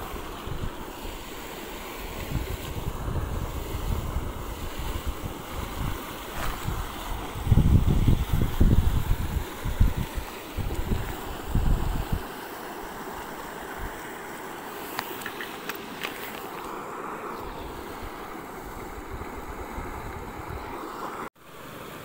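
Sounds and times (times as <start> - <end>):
wind buffeting microphone: 0.0 - 12.4, 15.0 - 21.2.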